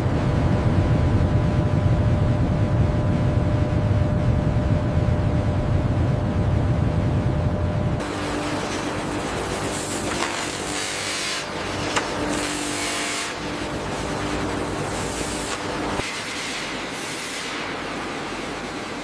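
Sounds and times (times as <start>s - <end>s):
factory machinery hiss and hum: 0.0s - 19.0s.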